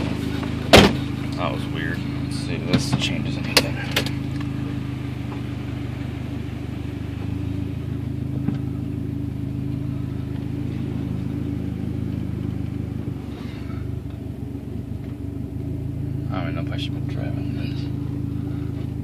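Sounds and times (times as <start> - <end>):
car engine running from inside cabin: 0.0 - 19.0.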